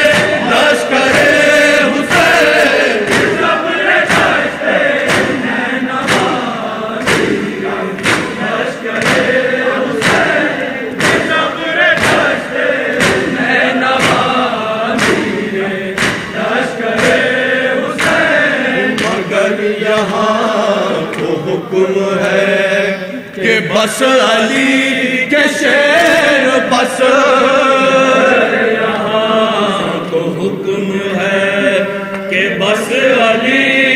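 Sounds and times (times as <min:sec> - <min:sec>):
men chanting together: 0:00.0 - 0:33.9.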